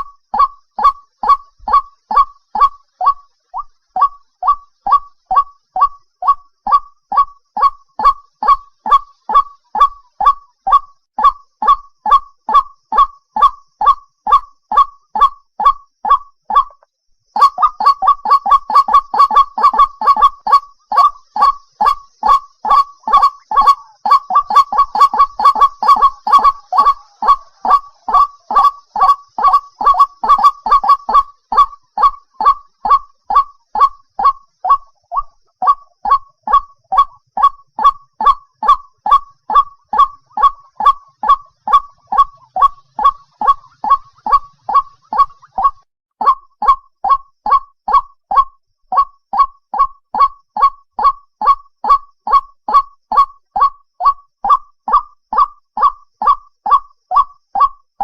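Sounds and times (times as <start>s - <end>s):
waterhen calling: 0.0s - 16.8s, 17.4s - 57.7s.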